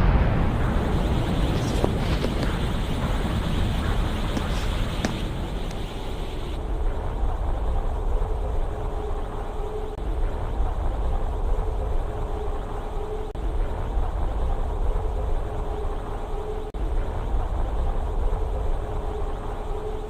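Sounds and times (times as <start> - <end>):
constant hum: 0.0 - 20.0
low rumbling drone: 0.0 - 20.0.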